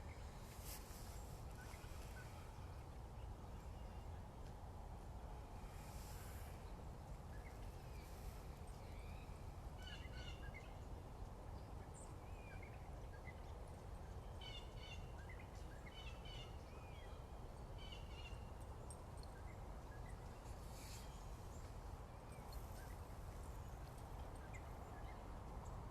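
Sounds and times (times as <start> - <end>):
songbirds twittering: 0.0 - 25.9.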